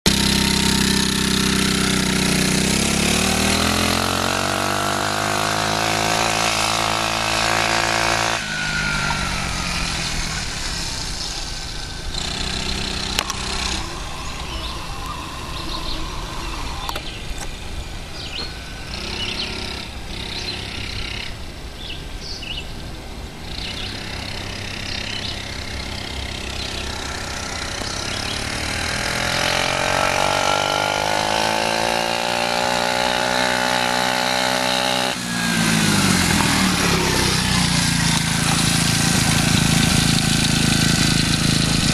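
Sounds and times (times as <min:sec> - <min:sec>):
small quad engine revving: 0:00.0 - 0:22.6, 0:23.4 - 0:41.9.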